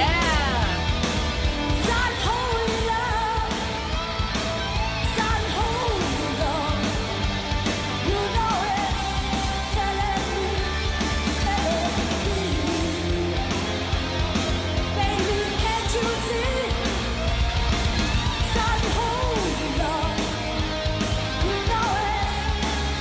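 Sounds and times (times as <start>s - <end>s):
woman singing: 0.0s - 1.0s, 1.6s - 4.2s, 5.0s - 7.4s, 8.0s - 14.0s, 14.8s - 17.4s, 18.4s - 23.0s
heavy metal band playing: 0.0s - 23.0s.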